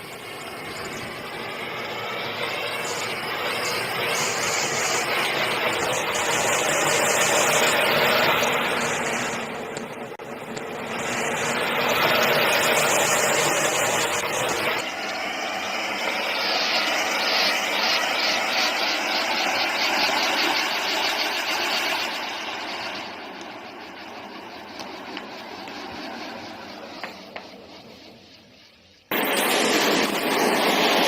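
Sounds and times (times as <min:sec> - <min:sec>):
firework hissing with crackling sparks: 0:00.0 - 0:31.0.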